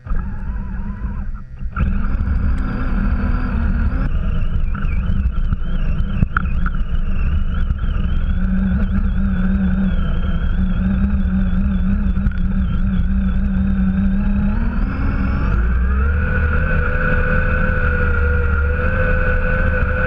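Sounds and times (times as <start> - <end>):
toy truck electric motor whining: 0.0 - 20.0
tyres churning snow: 0.0 - 20.0.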